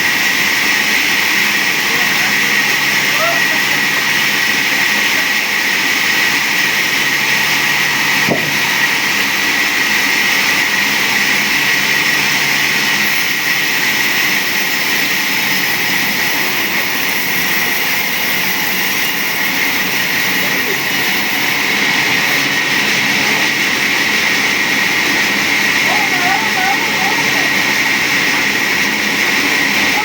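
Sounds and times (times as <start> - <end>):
machine hissing and whining: 0.0 - 30.0.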